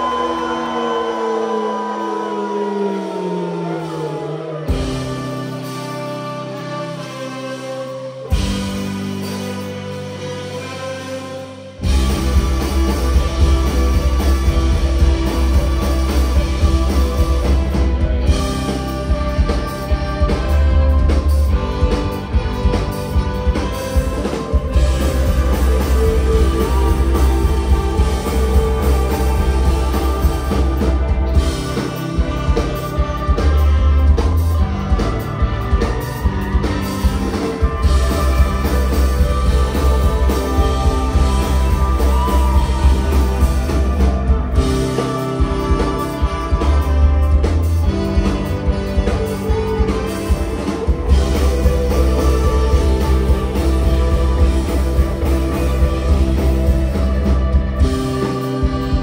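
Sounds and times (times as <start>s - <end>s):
bass guitar: 0.0s - 59.0s
drum kit: 0.0s - 59.0s
electric guitars: 0.0s - 59.0s
trumpet and trombone: 4.7s - 59.0s.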